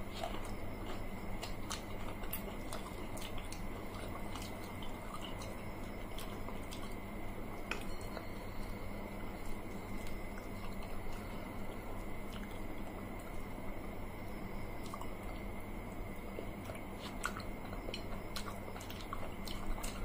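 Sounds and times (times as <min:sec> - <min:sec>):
chewing and wet squishing: 0:00.0 - 0:20.0.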